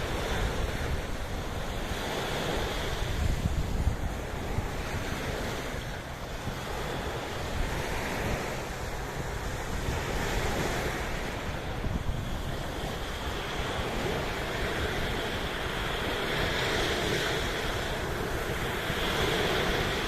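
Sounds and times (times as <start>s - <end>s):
sea waves washing in: 0.0s - 20.0s
wind rumbling on microphone: 0.0s - 20.0s.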